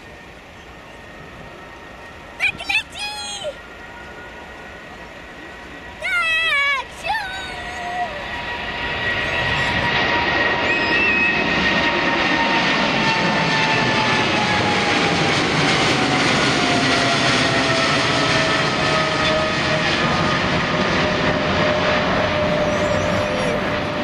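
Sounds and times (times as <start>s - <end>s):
jet engine roar with whine: 0.0s - 24.0s.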